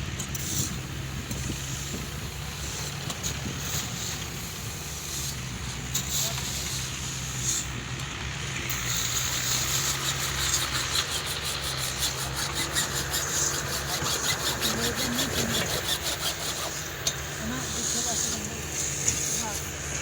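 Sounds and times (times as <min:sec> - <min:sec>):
engine running: 0:00.0 - 0:20.0
hand saw strokes: 0:00.2 - 0:20.0.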